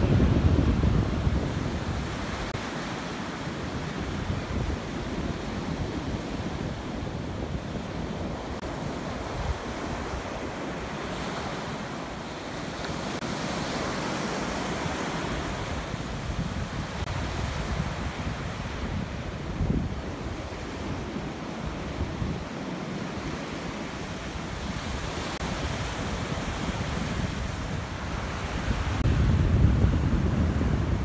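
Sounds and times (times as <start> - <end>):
ocean surf breaking on beach: 0.0 - 31.0
wind rumbling on microphone: 0.0 - 31.0.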